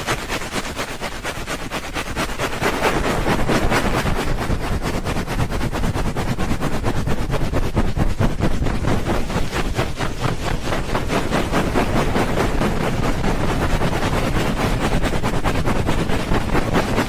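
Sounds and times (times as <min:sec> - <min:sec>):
rubbing on microphone: 0:00.0 - 0:17.0.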